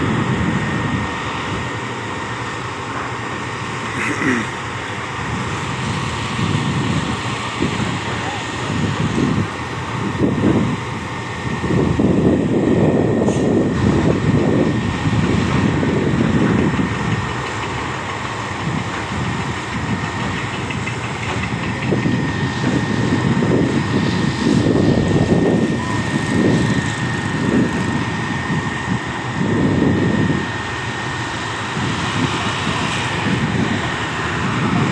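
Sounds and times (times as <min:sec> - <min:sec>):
diesel engine rumble: 0:00.0 - 0:34.9
high hydraulic whine: 0:00.0 - 0:34.9.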